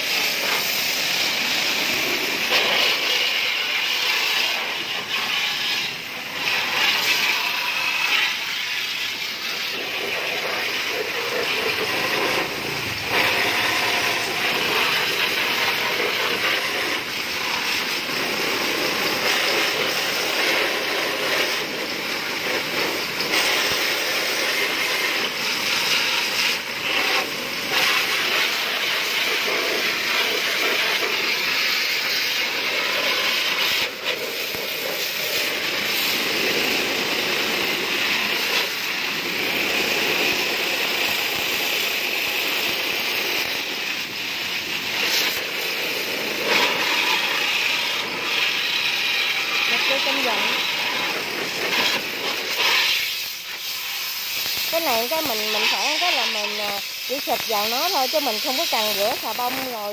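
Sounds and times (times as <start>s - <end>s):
hose water jet hissing: 0.0s - 59.9s.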